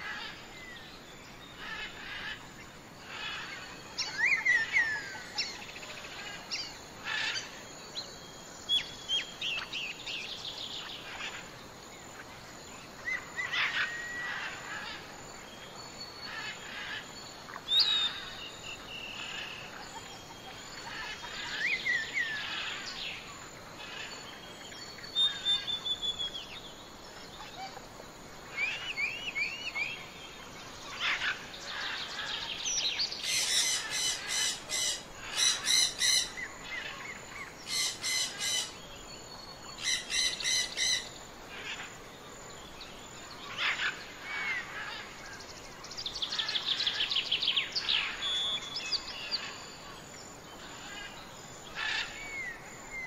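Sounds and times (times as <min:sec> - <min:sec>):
background hiss: 0:00.0 - 0:53.0
songbirds singing and calling: 0:00.0 - 0:53.0.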